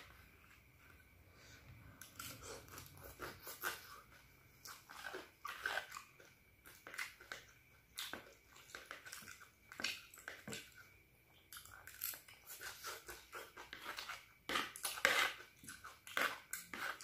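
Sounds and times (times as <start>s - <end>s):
person chewing noodles: 2.0s - 17.0s.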